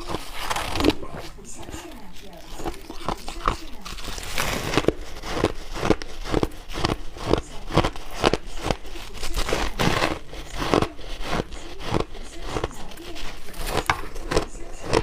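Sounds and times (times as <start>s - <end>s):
ice crunched between teeth: 0.0s - 15.0s.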